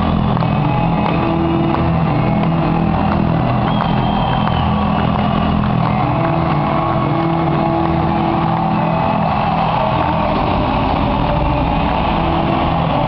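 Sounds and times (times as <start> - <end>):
arena crowd cheering: 0.0 - 13.0
loud ring-walk music: 0.0 - 13.0.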